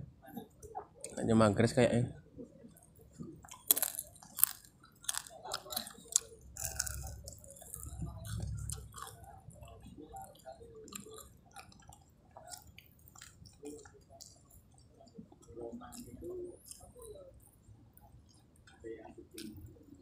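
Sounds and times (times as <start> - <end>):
close chewing: 2.7 - 20.0
mouth clicks and smacks: 2.7 - 20.0.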